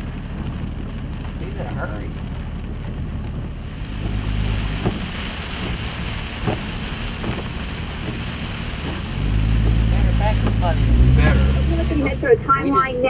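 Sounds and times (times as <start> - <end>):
heavy rain on a vehicle: 0.0 - 13.0
low rumble of vehicle: 0.0 - 13.0.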